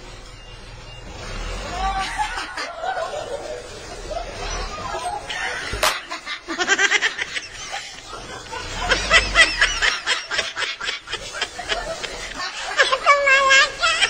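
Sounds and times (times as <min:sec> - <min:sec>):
children laughing and squealing: 0:00.0 - 0:14.0.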